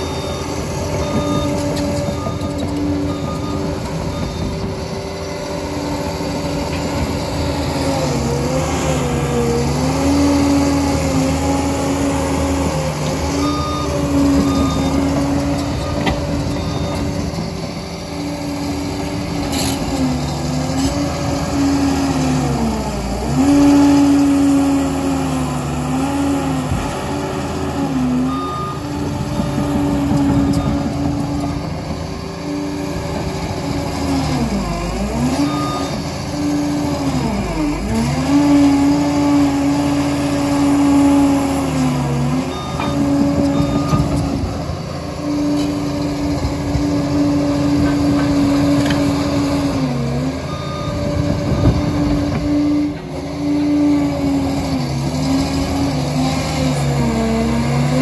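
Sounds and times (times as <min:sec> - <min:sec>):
crawler dozer engine running: 0:00.0 - 0:58.0.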